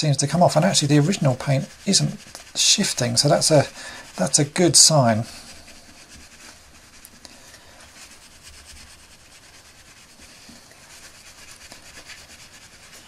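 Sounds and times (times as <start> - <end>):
cotton bud scraping plastic: 0.0 - 13.0.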